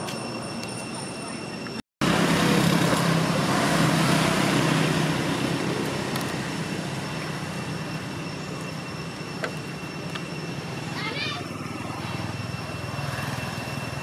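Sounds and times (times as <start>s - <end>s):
motor vehicle engine running: 2.0s - 14.0s.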